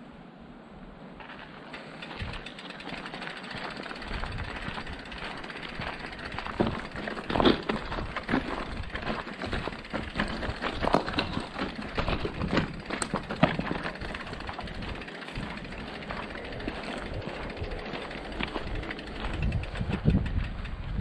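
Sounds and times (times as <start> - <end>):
bike rattling and clicking: 1.2 - 21.0
bike tyres on gravel: 1.2 - 21.0.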